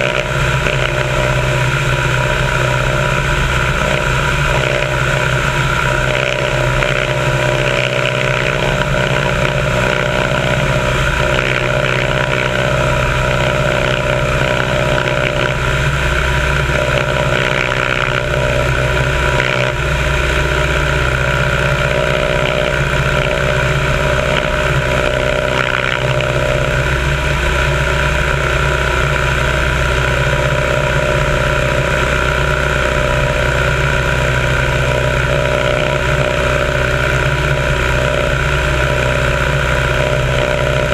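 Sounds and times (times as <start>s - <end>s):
propeller plane engine running: 0.0s - 40.9s.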